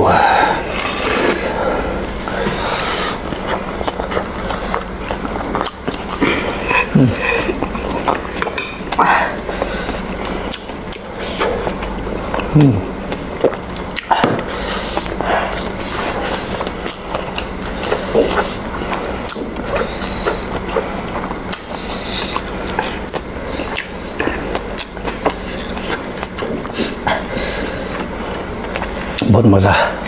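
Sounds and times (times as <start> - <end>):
steady low hum: 0.0 - 30.0
noodles slurped and chewed: 0.6 - 30.0.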